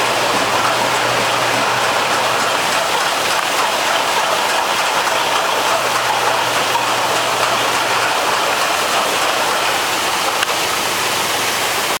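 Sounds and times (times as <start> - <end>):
packaging machinery and conveyor: 0.0 - 12.0.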